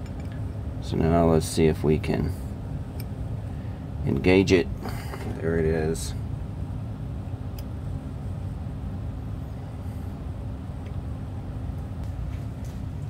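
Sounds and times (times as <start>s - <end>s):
low background rumble with hum: 0.0s - 13.0s.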